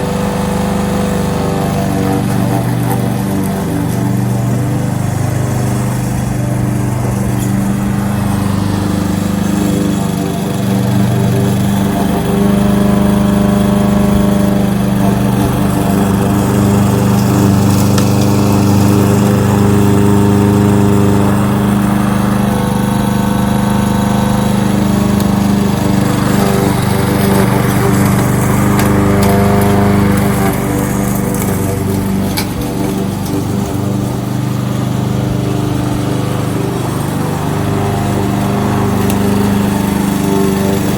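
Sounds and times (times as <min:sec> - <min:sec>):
lawnmower engine running: 0:00.0 - 0:40.9.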